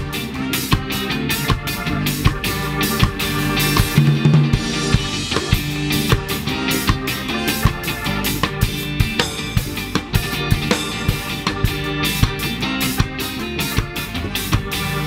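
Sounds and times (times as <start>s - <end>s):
bass guitar: 0.0s - 15.0s
drum kit steady beat: 0.0s - 15.0s
electric guitar: 0.0s - 15.0s
organ: 0.0s - 15.0s
trumpet: 0.0s - 15.0s.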